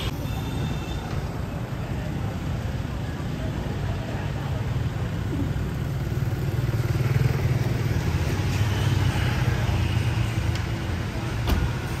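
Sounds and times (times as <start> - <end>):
traffic rumble: 0.0 - 12.0
motorbike and van engines passing: 1.3 - 12.0.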